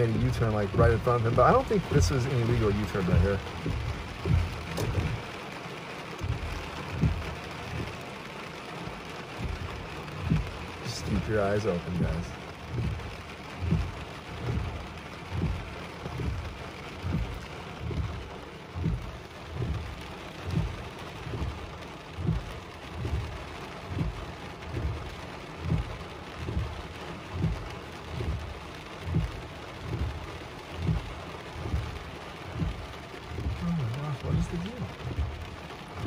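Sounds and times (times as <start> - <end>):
rain on a car: 0.0 - 36.0
soft low thump: 0.7 - 5.4, 6.1 - 8.0, 9.3 - 11.3, 11.9 - 33.6, 34.3 - 36.0.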